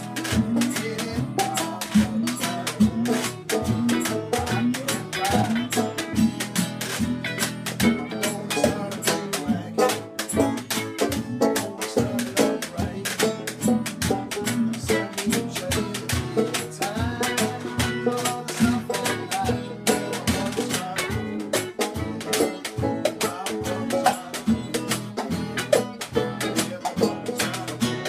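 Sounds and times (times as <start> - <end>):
strummed acoustic guitar: 0.0 - 28.0
washtub bass: 0.0 - 28.0.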